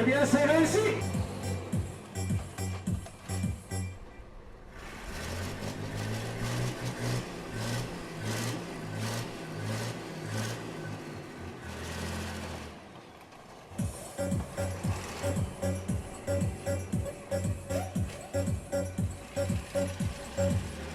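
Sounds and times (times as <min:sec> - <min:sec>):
engine revving in bursts: 0:00.0 - 0:13.0, 0:13.7 - 0:20.9.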